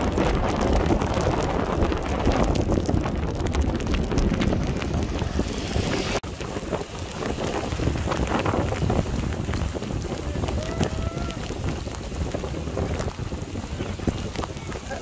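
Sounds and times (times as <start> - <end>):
heavy rain: 0.0 - 15.0
vehicle driving on wet road: 0.0 - 15.0
wind on microphone: 0.0 - 15.0.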